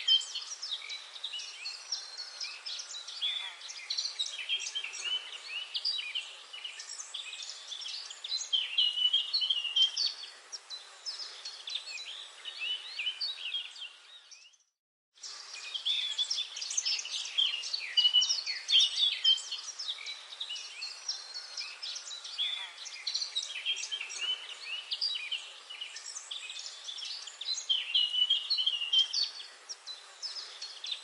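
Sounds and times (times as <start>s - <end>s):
faint hiss: 0.0s - 14.2s, 15.2s - 31.0s
small birds chirping: 0.0s - 31.0s.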